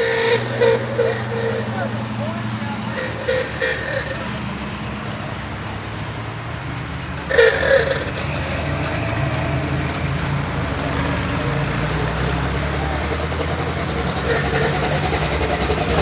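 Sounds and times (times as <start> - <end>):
car engines rumbling past: 0.0 - 16.0.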